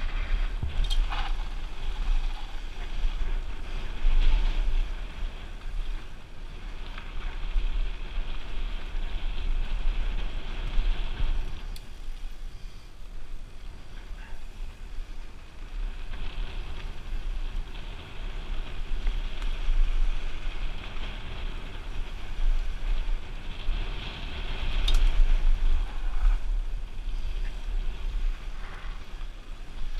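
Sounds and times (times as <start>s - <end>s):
tyres on dirt trail: 0.0s - 29.9s
wind buffeting microphone: 0.0s - 29.9s.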